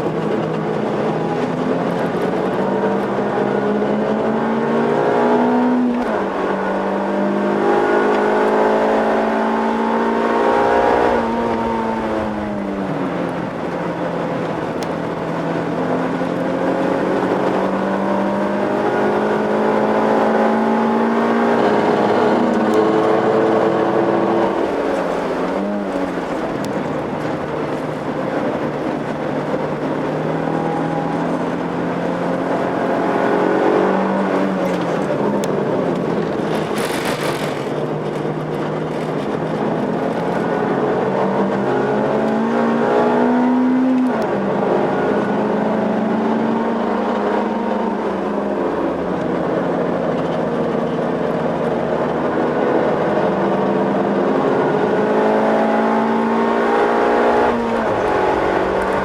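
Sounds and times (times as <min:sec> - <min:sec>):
car engine accelerating: 0:00.0 - 0:59.0
tyre and road noise: 0:00.0 - 0:59.0.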